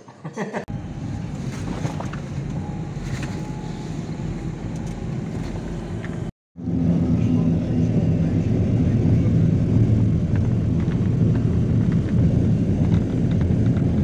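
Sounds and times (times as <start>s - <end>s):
vehicle engine droning: 0.7s - 14.0s
wind noise: 0.7s - 14.0s.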